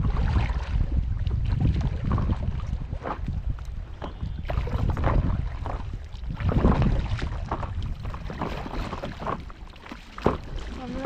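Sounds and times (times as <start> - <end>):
paddle splashing in water: 0.0 - 11.0
wind rumble on microphone: 0.0 - 11.0.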